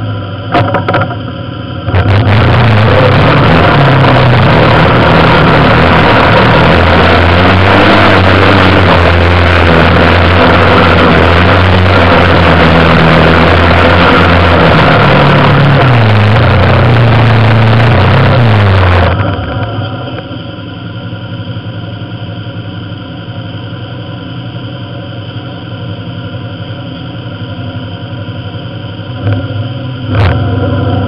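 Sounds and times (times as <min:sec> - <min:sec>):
heavy rumbling noise: 0:00.0 - 0:31.0
vehicle engine running: 0:00.0 - 0:31.0.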